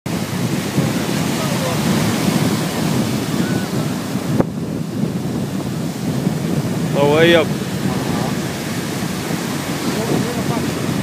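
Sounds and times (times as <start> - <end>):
sea surf: 0.1 - 11.0
wind buffeting microphone: 0.1 - 11.0.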